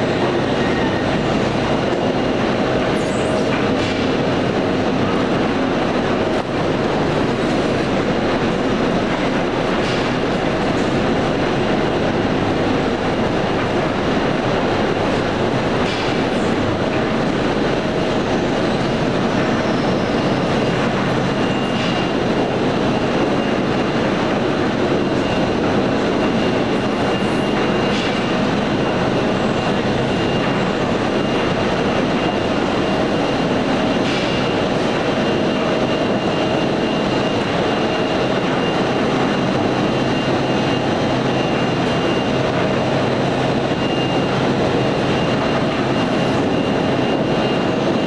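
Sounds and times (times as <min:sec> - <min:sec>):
conveyor machinery din: 0:00.0 - 0:48.0
low machine hum: 0:00.0 - 0:48.0.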